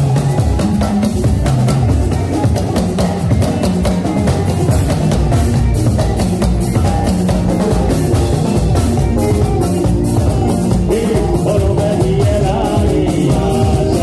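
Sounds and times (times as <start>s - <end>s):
electric guitar: 0.0s - 14.0s
fast drum beat: 0.0s - 14.0s.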